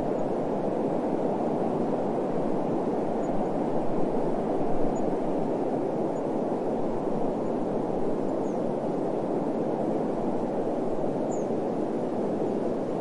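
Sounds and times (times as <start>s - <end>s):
muffled wind noise: 0.0s - 13.0s.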